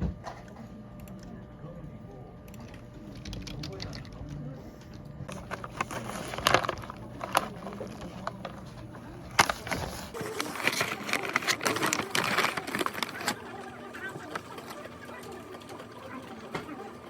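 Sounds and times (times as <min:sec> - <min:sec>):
low steady hum: 0:00.0 - 0:14.8.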